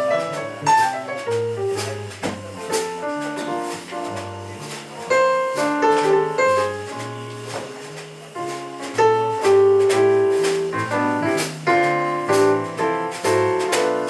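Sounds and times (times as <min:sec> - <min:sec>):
cymbal and drum strokes: 0:00.3 - 0:14.0.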